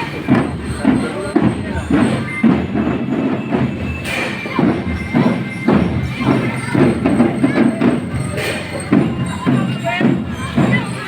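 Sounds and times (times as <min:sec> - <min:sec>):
loud music with percussive beat: 0:00.0 - 0:11.0.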